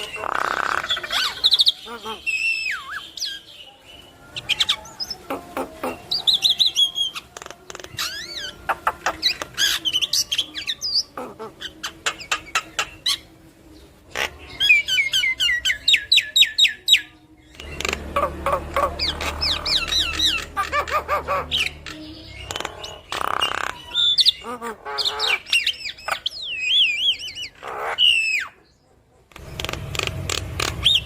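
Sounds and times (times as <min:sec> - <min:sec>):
bird singing chattering song: 0:00.0 - 0:31.0.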